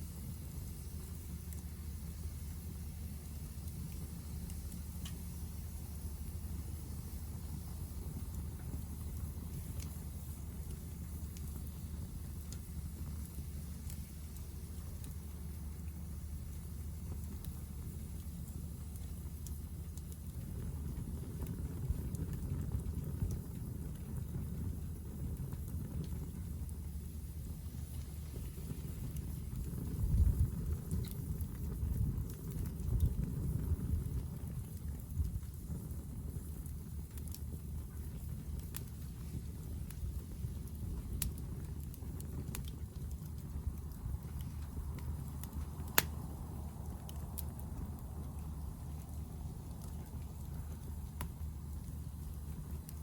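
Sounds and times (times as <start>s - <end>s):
fire crackling: 0.0s - 53.0s
fire low rumble: 0.0s - 53.0s.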